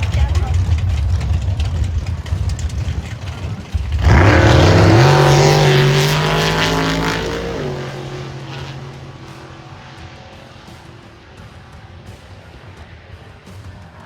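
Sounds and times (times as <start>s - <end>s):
racing car engine at full throttle: 0.0s - 14.0s.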